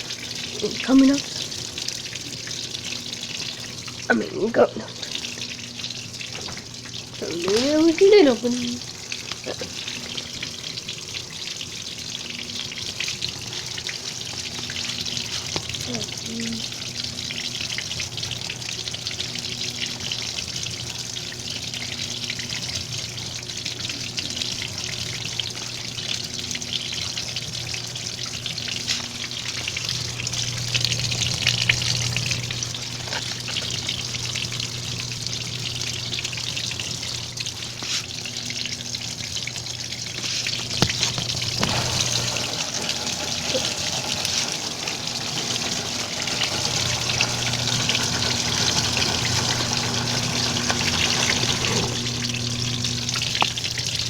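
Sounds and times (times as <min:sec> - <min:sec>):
low steady hum: 0:00.0 - 0:54.0
water rushing into washing machine: 0:00.0 - 0:54.0.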